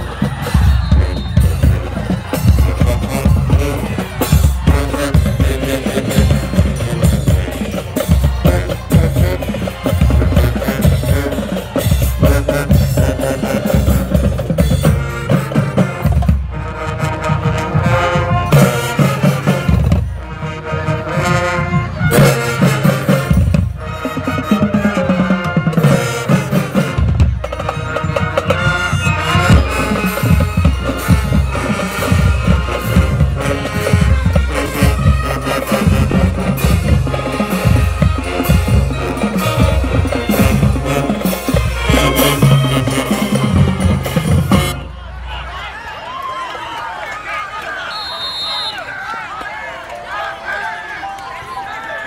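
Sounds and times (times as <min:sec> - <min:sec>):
snare tenor and bass drums: 0:00.0 - 0:45.3
marching band playing: 0:00.0 - 0:52.0.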